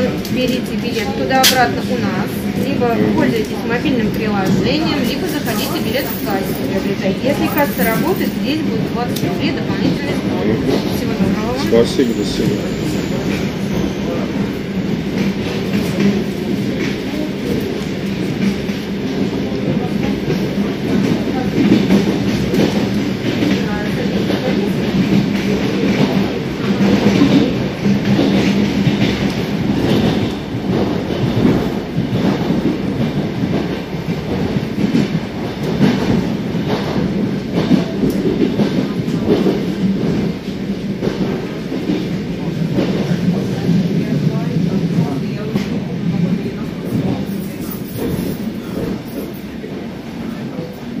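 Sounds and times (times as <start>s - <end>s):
clickety-clack over rail joints: 0.0s - 51.0s
train wheels rumbling on rails: 0.0s - 51.0s.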